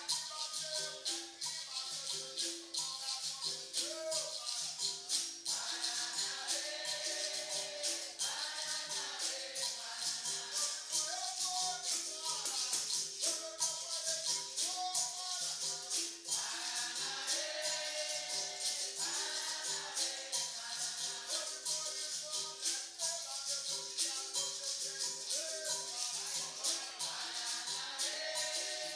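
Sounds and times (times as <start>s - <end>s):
group singing: 0.0s - 28.9s
pandeiro jingles: 0.0s - 28.9s.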